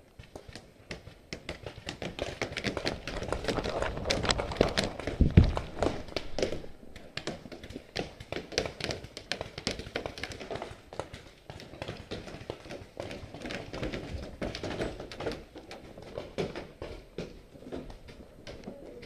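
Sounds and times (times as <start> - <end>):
footsteps: 0.0 - 19.0.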